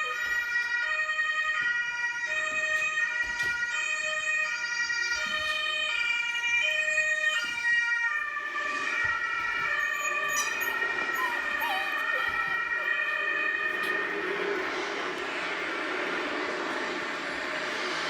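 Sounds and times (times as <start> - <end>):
two-tone siren through speaker: 0.0 - 18.0.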